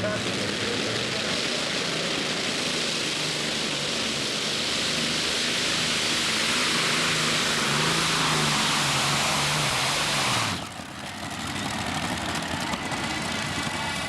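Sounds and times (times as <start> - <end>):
tractor engines rushing: 0.0 - 14.0.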